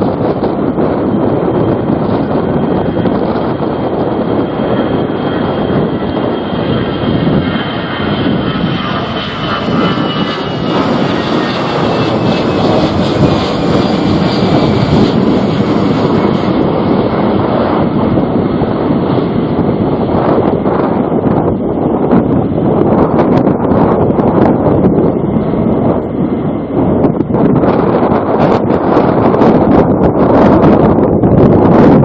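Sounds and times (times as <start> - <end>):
jet airliner passing: 0.0 - 32.0
wind buffeting microphone: 0.0 - 32.0.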